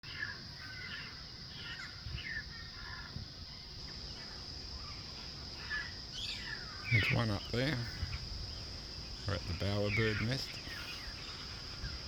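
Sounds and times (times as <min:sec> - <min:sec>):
birds chirping and trilling: 0:00.0 - 0:12.0
high insect drone: 0:00.0 - 0:12.0.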